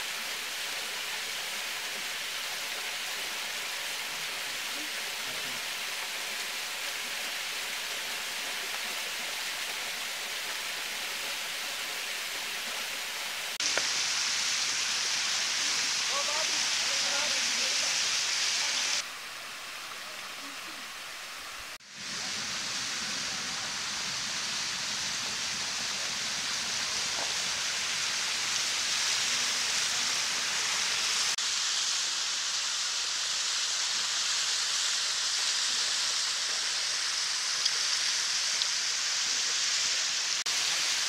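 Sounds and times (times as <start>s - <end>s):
waterfall hissing and rushing: 0.0s - 41.0s.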